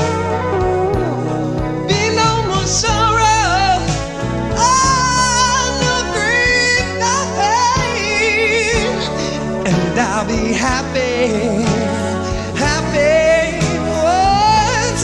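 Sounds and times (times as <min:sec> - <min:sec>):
bass and drums: 0:00.0 - 0:15.0
wavering melody line: 0:00.0 - 0:15.0.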